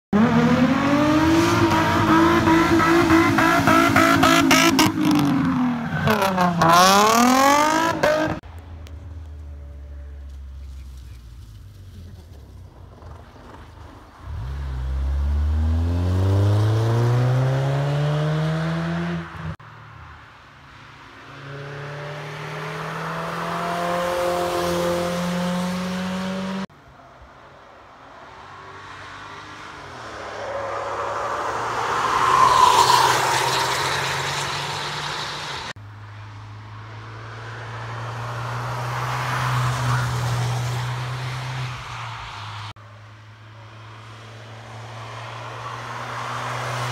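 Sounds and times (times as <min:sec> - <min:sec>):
race cars passing at speed: 0:00.2 - 0:10.3, 0:13.1 - 0:46.9.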